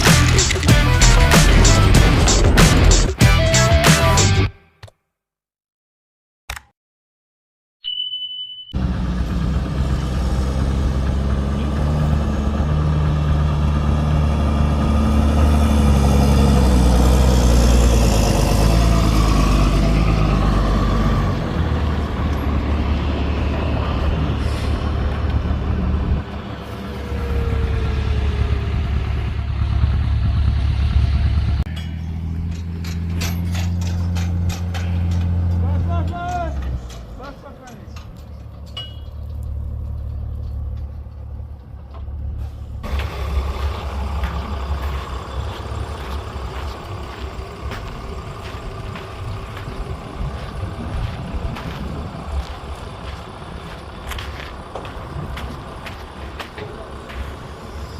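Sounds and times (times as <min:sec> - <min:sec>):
heavy diesel machinery droning: 0:08.8 - 0:57.9.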